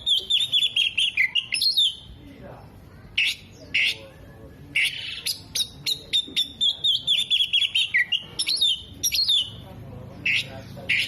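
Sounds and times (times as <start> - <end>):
bird song with chirps and trills: 0.0 - 11.0.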